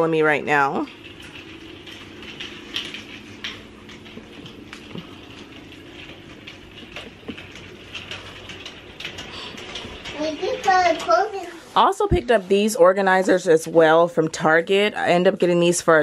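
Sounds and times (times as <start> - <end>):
cart rattling on tile floor: 0.0 - 16.0.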